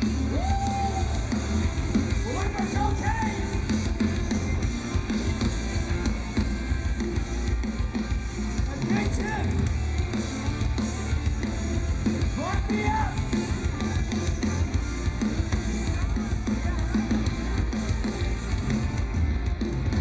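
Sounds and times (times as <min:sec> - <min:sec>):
drum kit: 0:00.0 - 0:20.0
live rock band playing: 0:00.0 - 0:20.0.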